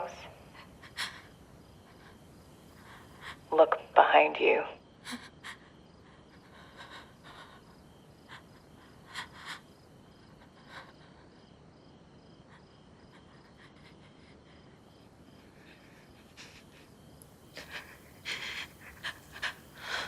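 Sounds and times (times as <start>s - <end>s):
faint crickets chirping: 0.0s - 20.0s.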